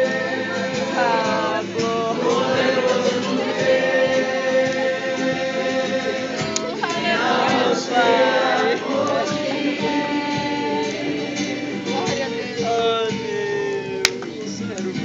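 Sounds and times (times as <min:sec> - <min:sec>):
group singing worship song: 0:00.0 - 0:13.0.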